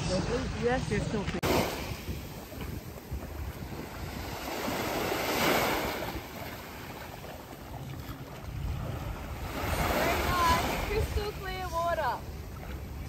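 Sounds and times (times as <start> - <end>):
small waves washing onto shore: 0.0 - 13.0
wind rumbling on microphone: 0.0 - 13.0.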